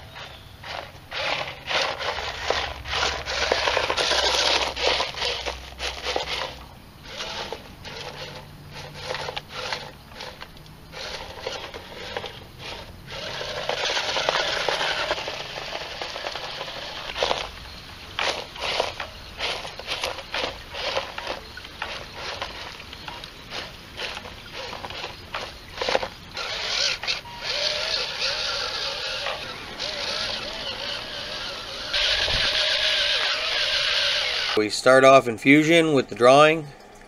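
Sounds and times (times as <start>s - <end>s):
plastic tires crunching over gravel: 0.0s - 36.7s.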